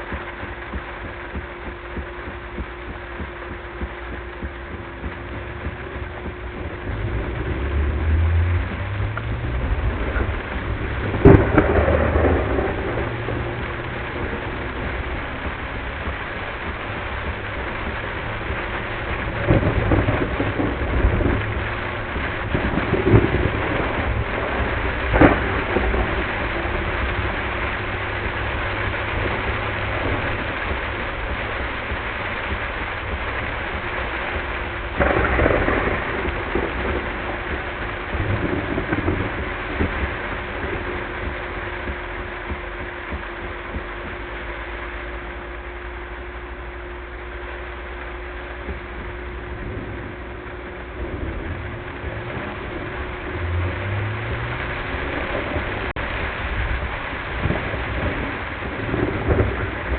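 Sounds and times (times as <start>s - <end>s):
heavy rain on a car: 0.0s - 59.9s
low thumps: 0.0s - 59.9s
moving car rumble: 0.0s - 59.9s
steady hum: 0.0s - 59.9s
thunder rumbles: 0.0s - 59.9s.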